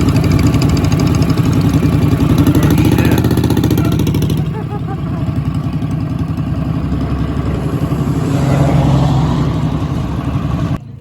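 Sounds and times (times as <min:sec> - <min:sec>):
minibike engine running: 0:00.0 - 0:11.0.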